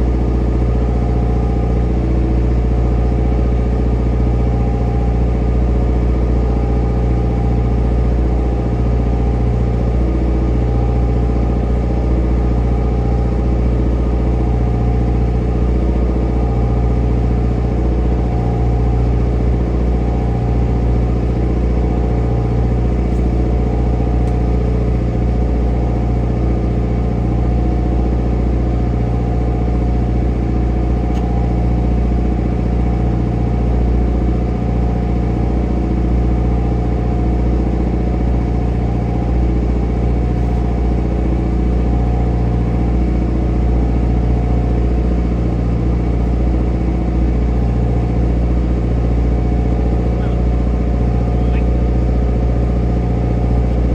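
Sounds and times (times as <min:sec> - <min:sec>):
boat engine droning: 0:00.0 - 0:53.9.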